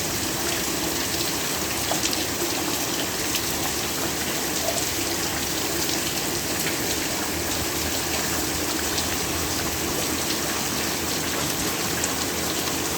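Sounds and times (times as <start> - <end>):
heavy rain falling: 0.0 - 12.9.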